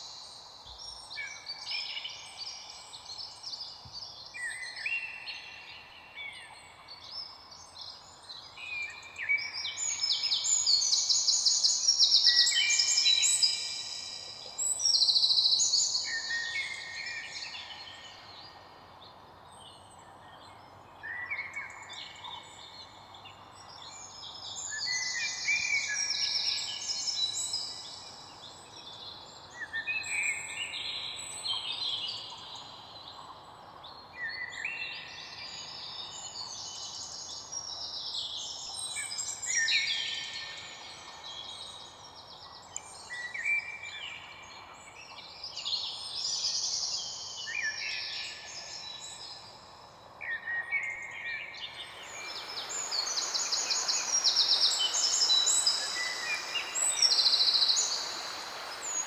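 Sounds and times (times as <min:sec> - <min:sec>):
faint background hiss: 0:00.0 - 0:59.0
songbirds singing: 0:00.0 - 0:59.0.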